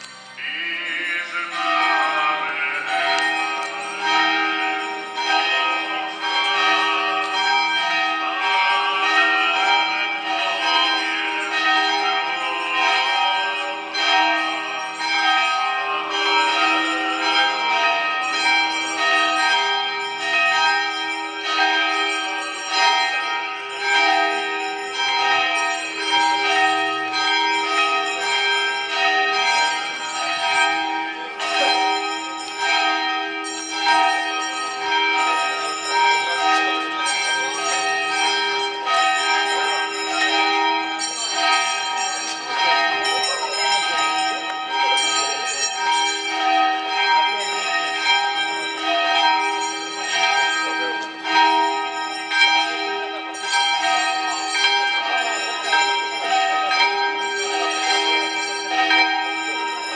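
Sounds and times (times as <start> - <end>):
church bells pealing: 0.0 - 59.9.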